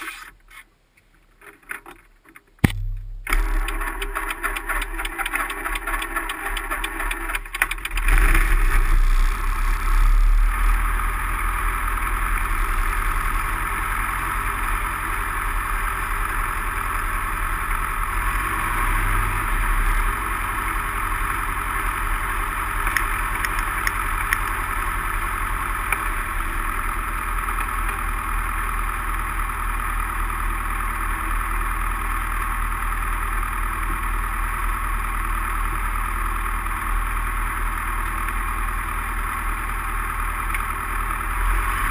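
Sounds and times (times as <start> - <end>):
light aircraft engine running: 2.7 - 41.9.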